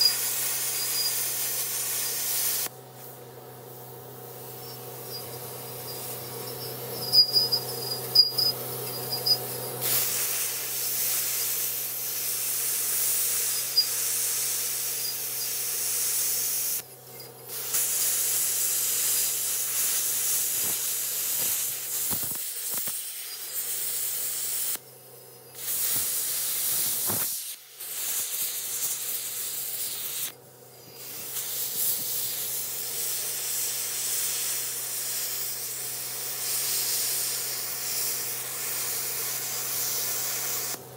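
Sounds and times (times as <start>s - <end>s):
plasma cutter arc hissing: 0.0s - 16.9s, 17.5s - 40.8s.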